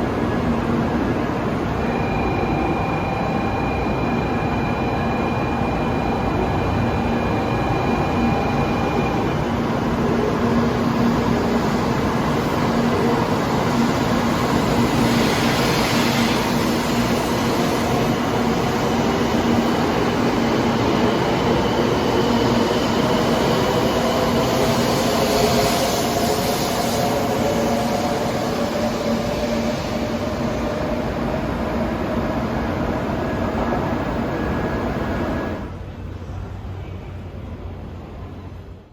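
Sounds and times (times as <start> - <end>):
train rolling on rails: 0.0 - 38.9.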